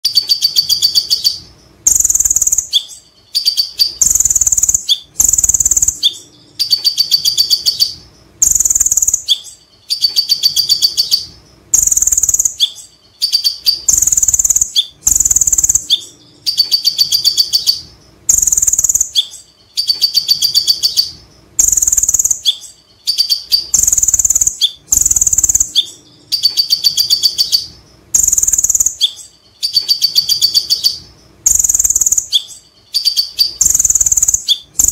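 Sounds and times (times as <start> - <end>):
sunbird singing rattling runs: 0.0 - 34.9.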